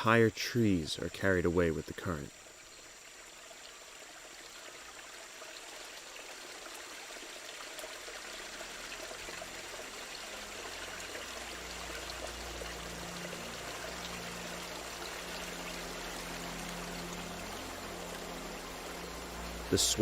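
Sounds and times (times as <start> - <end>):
floodwater rushing: 3.6 - 20.0.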